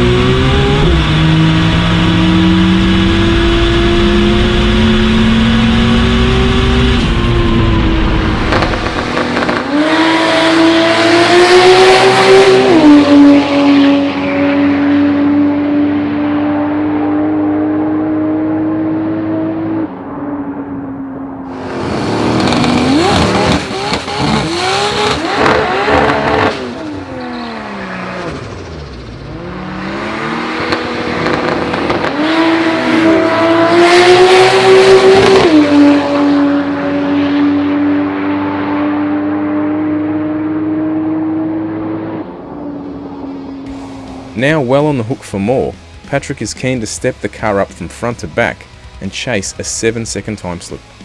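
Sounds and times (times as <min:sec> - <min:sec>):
turbocharged engine revving: 0:00.0 - 0:19.9, 0:21.5 - 0:51.0.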